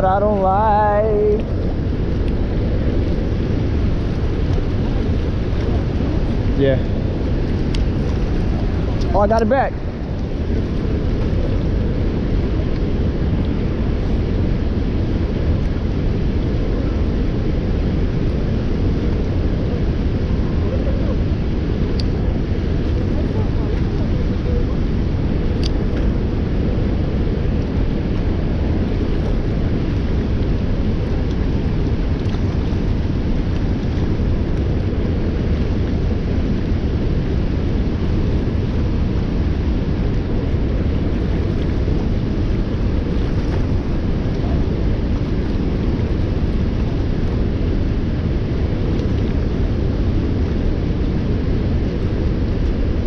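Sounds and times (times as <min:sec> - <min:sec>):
churning river: 0:00.0 - 0:53.0
waterfall roaring: 0:00.0 - 0:53.0.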